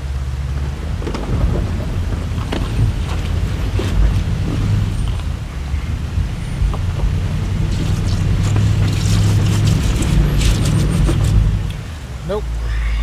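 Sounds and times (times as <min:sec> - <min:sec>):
engine droning under load: 0:00.0 - 0:13.0
stones crackling under tyres: 0:00.4 - 0:11.9.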